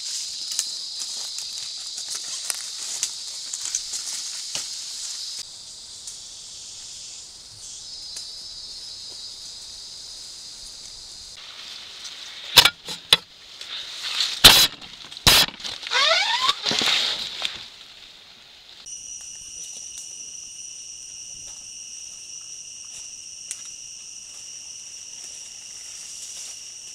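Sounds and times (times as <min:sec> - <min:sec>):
high insect drone: 0:00.0 - 0:26.9.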